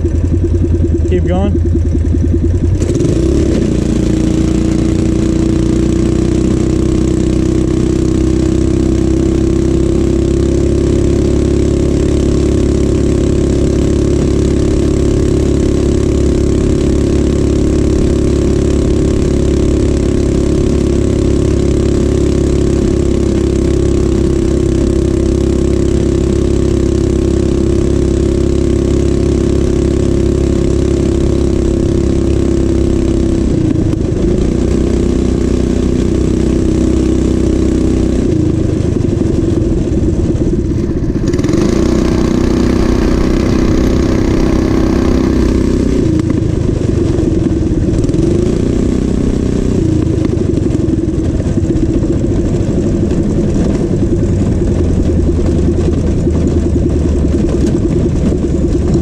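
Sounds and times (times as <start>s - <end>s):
small motorbike engine running: 0.0s - 59.0s.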